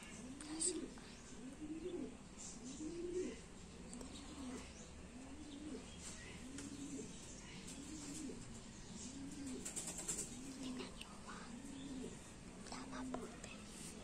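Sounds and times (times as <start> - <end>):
pigeon cooing: 0.0 - 14.0.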